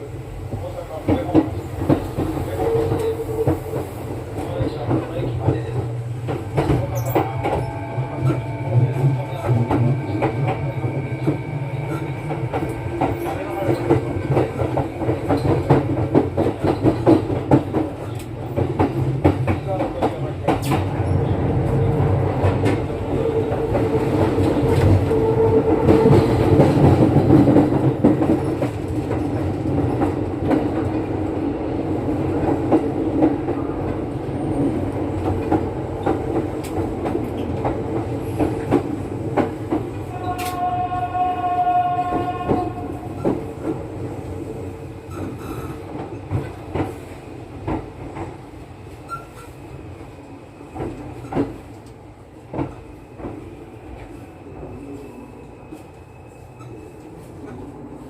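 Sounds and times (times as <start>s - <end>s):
train running rumble and whine: 0.0s - 58.0s.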